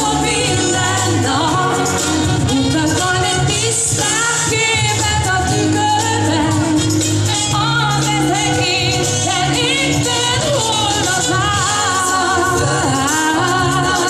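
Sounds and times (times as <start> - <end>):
amplified backing music: 0.0 - 14.0
woman singing into microphone: 0.0 - 14.0.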